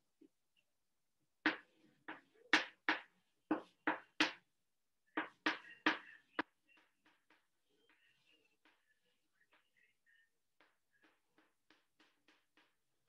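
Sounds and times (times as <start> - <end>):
chalk tapping on chalkboard: 1.5 - 4.4, 5.2 - 13.0.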